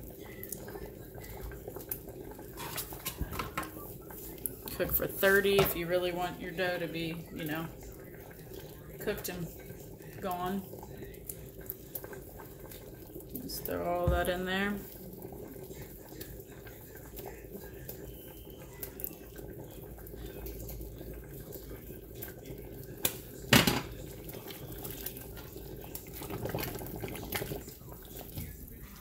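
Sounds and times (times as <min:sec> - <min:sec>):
soup simmering: 0:00.0 - 0:29.0.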